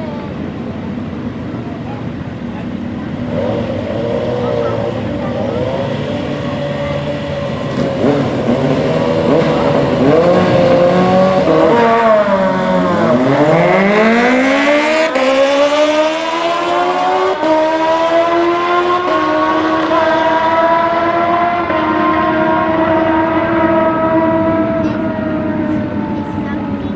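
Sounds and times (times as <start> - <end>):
motorcycle engine revving: 2.4 - 26.9.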